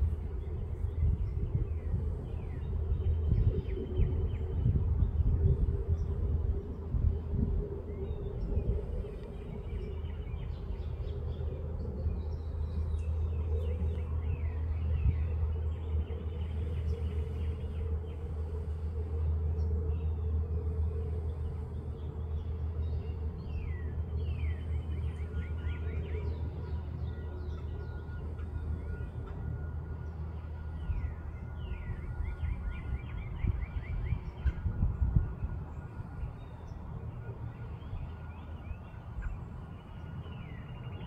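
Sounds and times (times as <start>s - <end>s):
steady low rumble: 0.0s - 41.0s
birds chirping: 7.8s - 41.0s.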